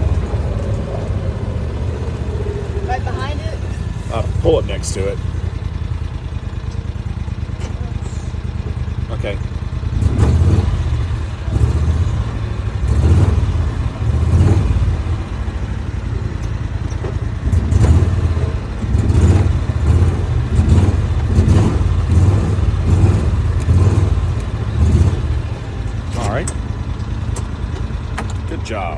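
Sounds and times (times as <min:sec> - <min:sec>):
small vehicle engine rumbling: 0:00.0 - 0:28.9.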